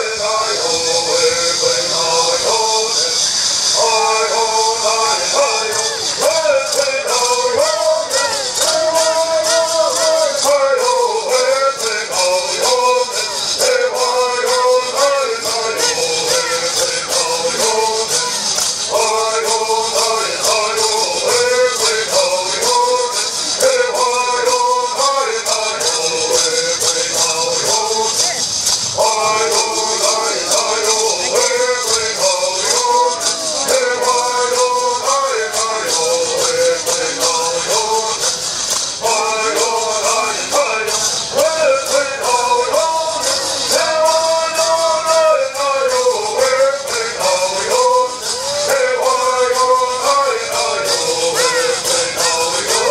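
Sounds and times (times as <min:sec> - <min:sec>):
gourd rattles shaking: 0:00.0 - 0:52.9
men singing together: 0:00.0 - 0:52.9.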